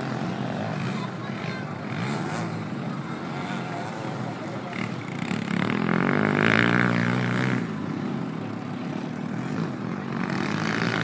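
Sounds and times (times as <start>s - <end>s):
dirt bike engines revving past: 0.0s - 11.0s.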